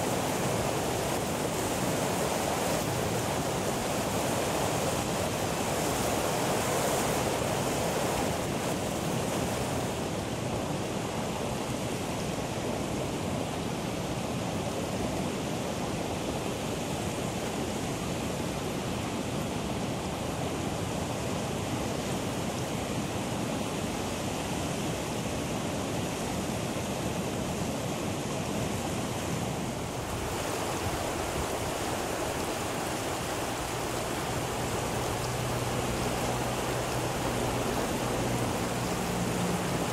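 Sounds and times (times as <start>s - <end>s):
geyser spraying water and steam: 0.0s - 39.9s
rushing stream water: 0.0s - 39.9s.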